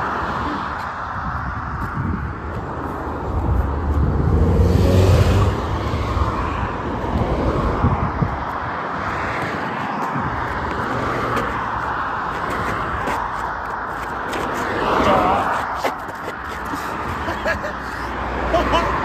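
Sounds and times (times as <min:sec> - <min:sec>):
steady rush of passing traffic: 0:00.0 - 0:19.0
vehicle engine drone and tyre noise: 0:00.0 - 0:19.0.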